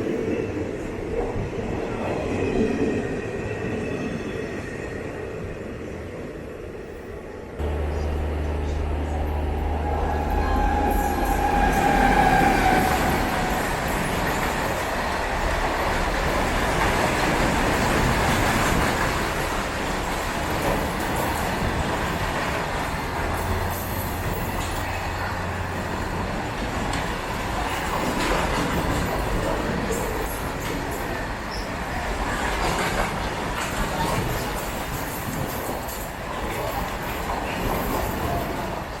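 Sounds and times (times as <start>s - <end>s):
high squeal of train: 0.0s - 39.0s
train wheels rumbling on rails: 7.5s - 39.0s.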